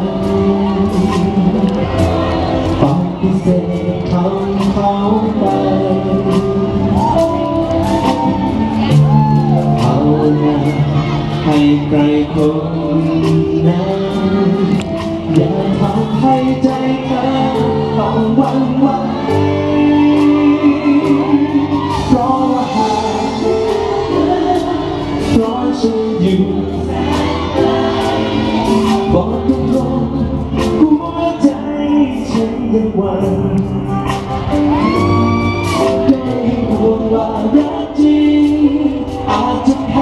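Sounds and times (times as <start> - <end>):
drums: 0.0 - 40.0
vocals sung into microphones: 0.0 - 40.0.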